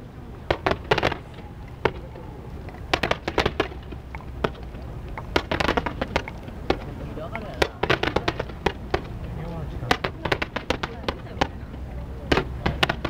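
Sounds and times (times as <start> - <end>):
fireworks crackling bangs: 0.0 - 13.0
steady low rumble: 0.0 - 13.0.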